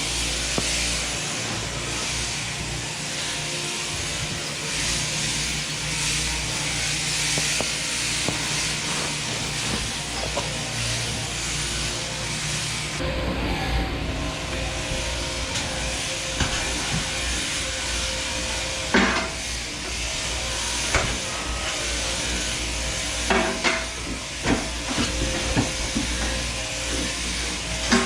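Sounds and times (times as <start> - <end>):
shearing handpiece buzzing: 0.0 - 28.0.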